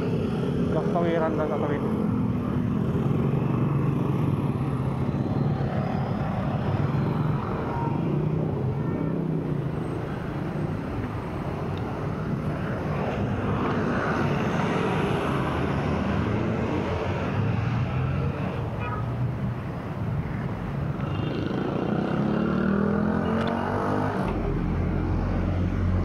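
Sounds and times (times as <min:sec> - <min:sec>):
street noise: 0:00.0 - 0:26.0.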